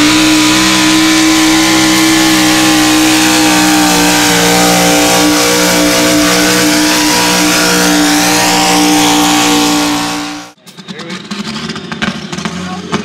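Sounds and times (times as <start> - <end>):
diesel engine at high revs: 0.0 - 13.0.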